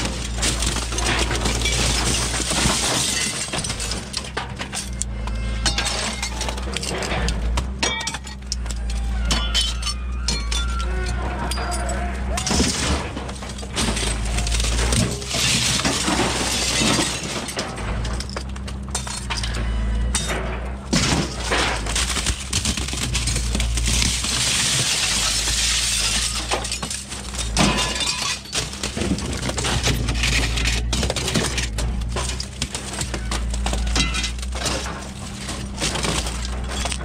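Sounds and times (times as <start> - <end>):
glass shattering and crunching: 0.0 - 37.0.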